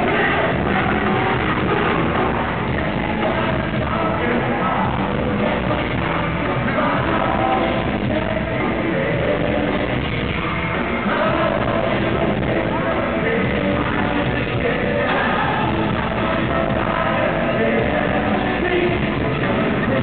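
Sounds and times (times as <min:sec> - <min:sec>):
live band music: 0:00.0 - 0:20.0
man singing: 0:00.0 - 0:20.0.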